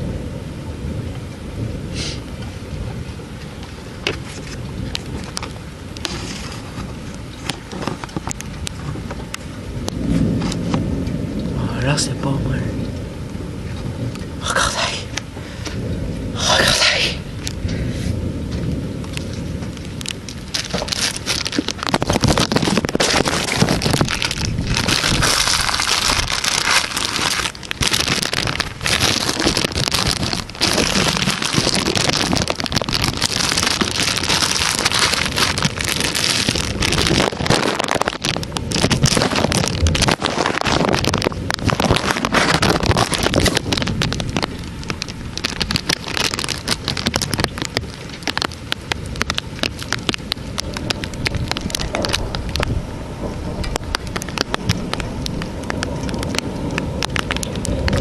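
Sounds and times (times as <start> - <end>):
heavy rain pelting down: 0.0 - 58.0.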